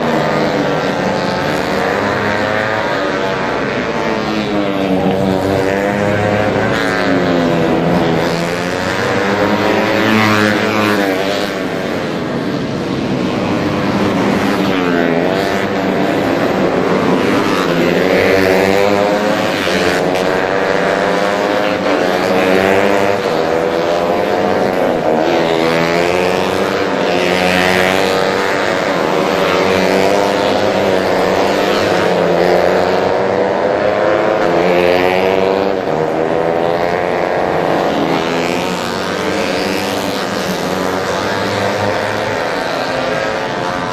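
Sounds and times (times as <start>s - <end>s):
racing motorcycle engines revving: 0.0s - 43.9s.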